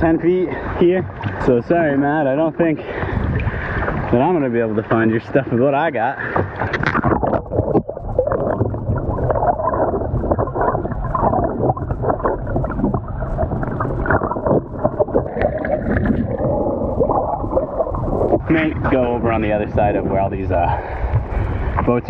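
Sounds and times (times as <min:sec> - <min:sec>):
muffled underwater sloshing: 0:00.0 - 0:22.0.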